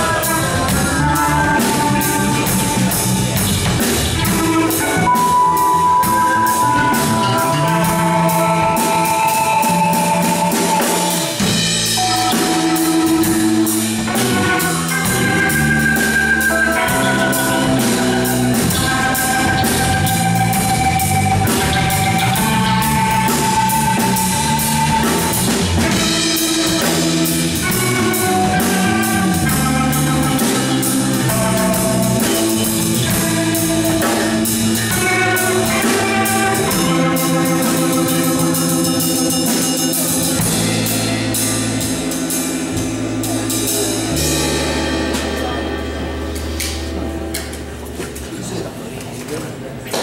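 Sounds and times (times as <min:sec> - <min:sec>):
electric guitar: 0:00.0 - 0:48.7
drum kit: 0:00.0 - 0:48.9
bass guitar: 0:00.0 - 0:49.3
keyboard: 0:00.0 - 0:49.8.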